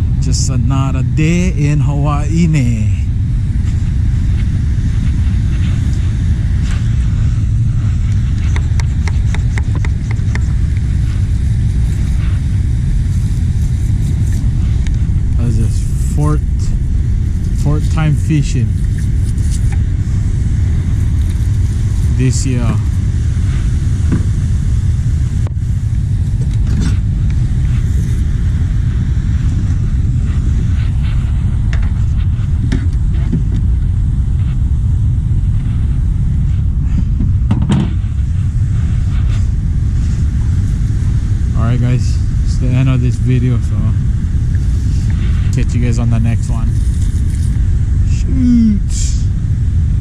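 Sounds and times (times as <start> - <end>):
vehicle interior rumble: 0.0 - 50.0.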